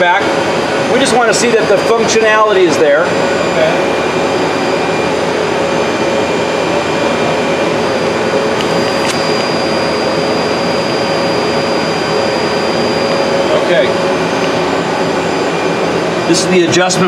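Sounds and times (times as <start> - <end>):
lathe machinery whirring: 0.0 - 17.0
thin high whine: 0.0 - 17.0.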